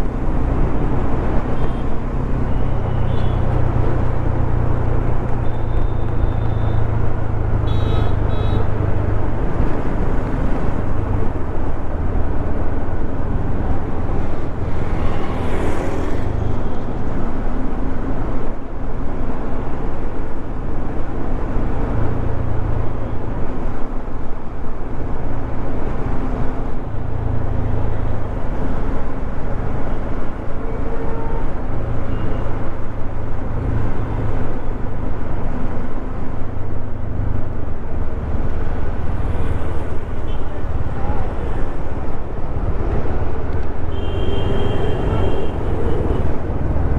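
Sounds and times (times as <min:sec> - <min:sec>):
traffic: 0:00.0 - 0:46.9
wind and road noise: 0:00.0 - 0:46.9.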